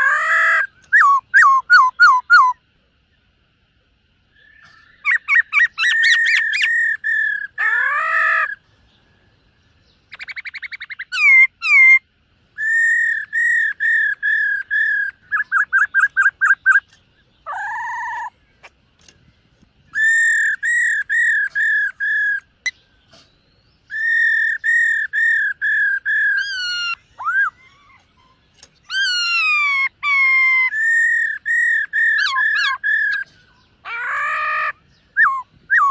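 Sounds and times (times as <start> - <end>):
bird singing whistled notes: 0.4 - 3.3, 4.2 - 18.7, 19.9 - 35.9.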